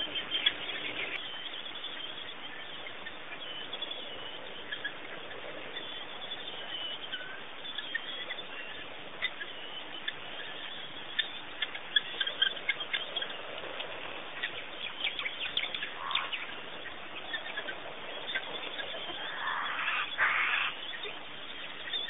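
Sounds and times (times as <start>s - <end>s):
wild birds chirping and calling: 0.0s - 22.0s.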